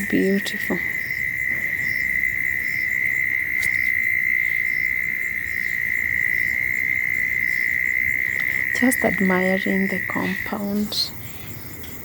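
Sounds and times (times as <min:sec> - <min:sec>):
crickets trilling: 0:00.0 - 0:12.0
higher insect call: 0:00.0 - 0:12.0.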